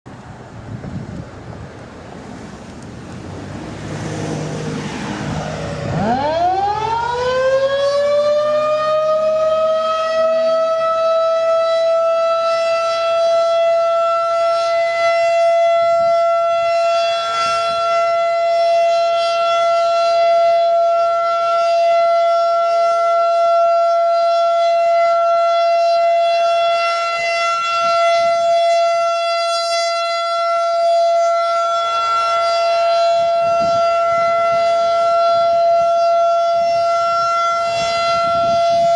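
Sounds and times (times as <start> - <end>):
outdoor warning siren winding up: 5.8 - 38.9.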